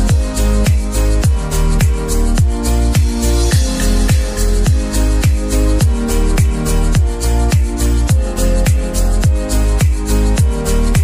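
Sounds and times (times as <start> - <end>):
kick drum: 0.1 - 11.0.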